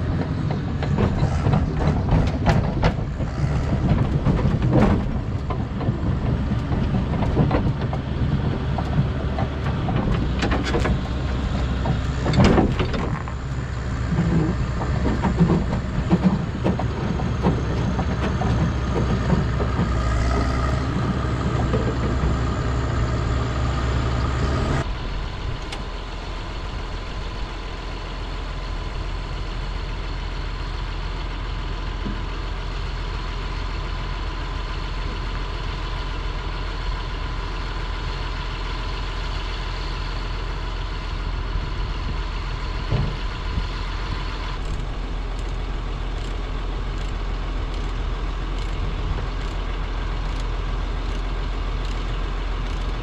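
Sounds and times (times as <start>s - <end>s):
truck diesel engine idling: 0.0s - 53.0s.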